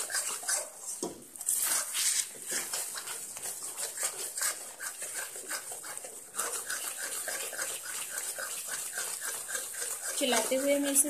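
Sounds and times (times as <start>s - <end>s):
metal spatula scraping pan: 0.0s - 11.0s.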